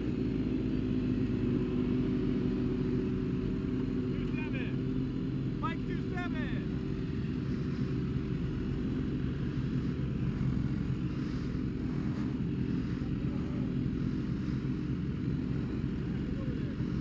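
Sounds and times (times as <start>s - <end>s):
motorcycle engines idling: 0.0s - 17.0s.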